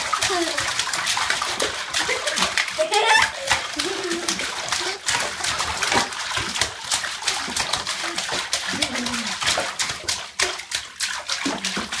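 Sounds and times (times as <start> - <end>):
bathwater splashing: 0.0 - 12.0.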